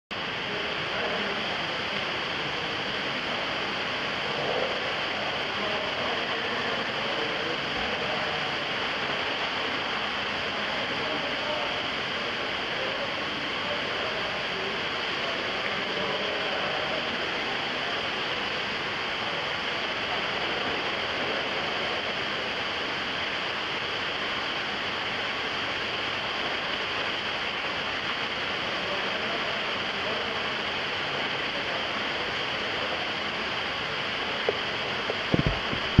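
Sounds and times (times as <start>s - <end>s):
water rushing down slide: 0.2s - 36.0s.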